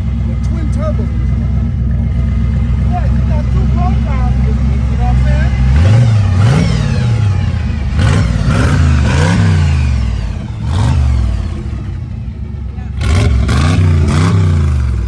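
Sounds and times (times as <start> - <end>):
hot rod engine revving: 0.0 - 15.0.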